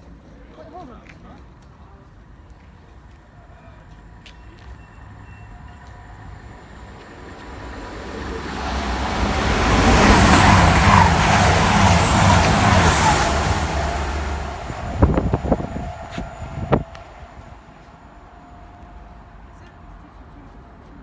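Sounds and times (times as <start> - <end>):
train passing at speed: 2.2 - 21.0.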